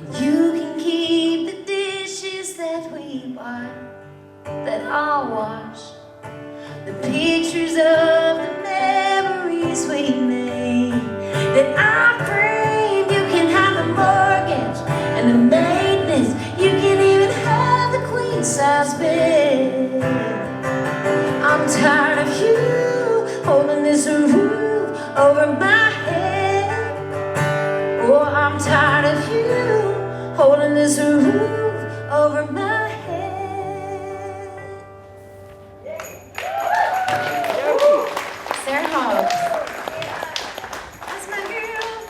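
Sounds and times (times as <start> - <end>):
woman singing country song: 0.0 - 35.1
acoustic guitar: 0.0 - 42.0.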